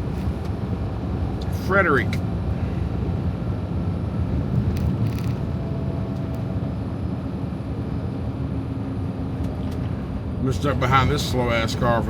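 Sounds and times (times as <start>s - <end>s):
road rumble: 0.0s - 12.0s
truck engine drone: 0.0s - 12.0s.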